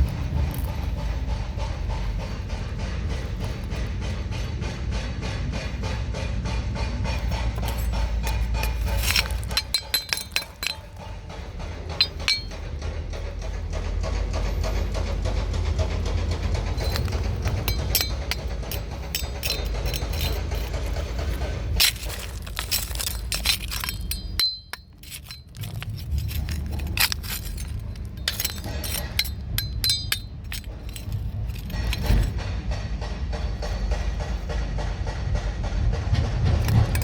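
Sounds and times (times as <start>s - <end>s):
tools striking rock: 0.0s - 35.2s, 36.5s - 37.0s
steady low rumble: 0.0s - 37.0s.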